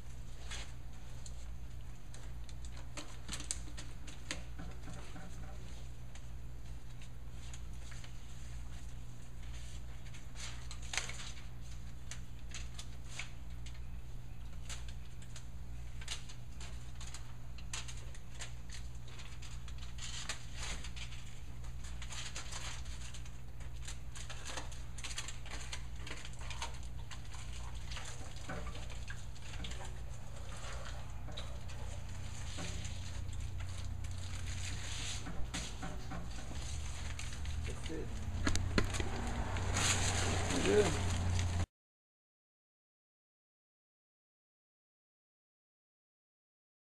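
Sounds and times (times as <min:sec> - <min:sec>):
foil wrap crinkling: 0:00.0 - 0:41.6
steady low hum: 0:00.0 - 0:41.7.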